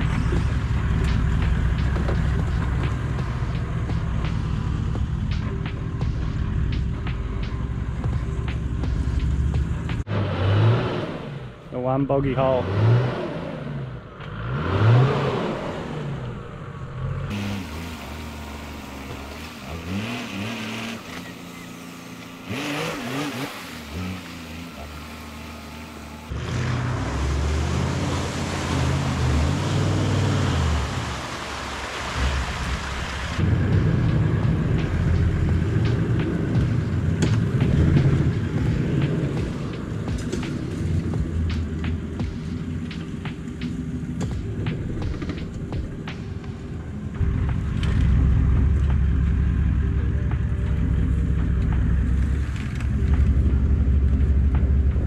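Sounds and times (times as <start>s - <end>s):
engine revving: 0.0s - 46.5s, 47.1s - 55.0s.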